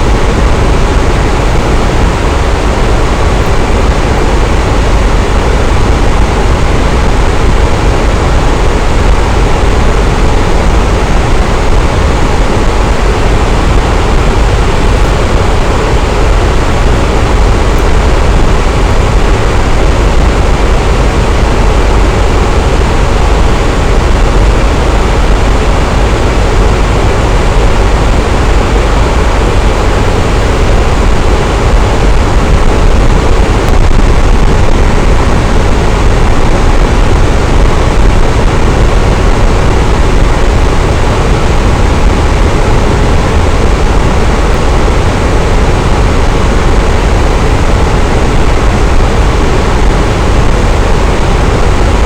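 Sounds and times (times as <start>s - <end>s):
electric fan running: 0.0s - 52.0s.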